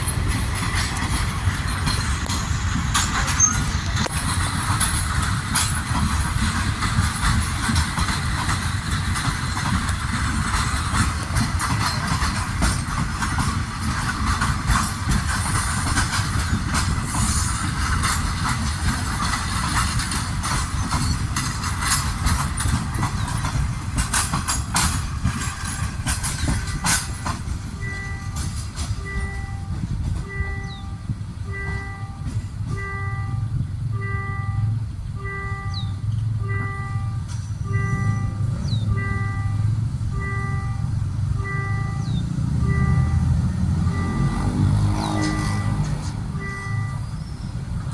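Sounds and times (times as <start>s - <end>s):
passenger train rumbling by: 0.0s - 47.9s
wheels clacking over rail joints: 0.0s - 47.9s.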